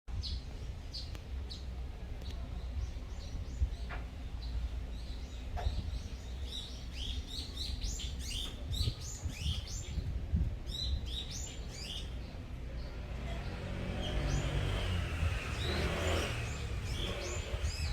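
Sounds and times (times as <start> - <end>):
steady low rumble: 0.1 - 15.7
songbirds chirping: 0.1 - 17.9.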